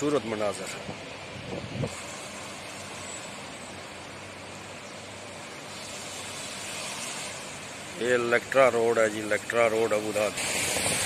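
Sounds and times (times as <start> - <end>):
rain hiss: 0.0 - 11.0
traffic hum: 0.0 - 11.0.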